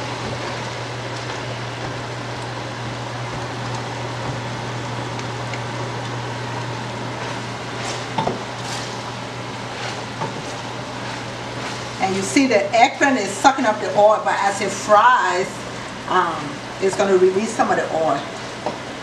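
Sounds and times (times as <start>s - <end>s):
oil sizzling in frying pan: 0.0s - 17.3s
steady low hum: 0.0s - 19.0s.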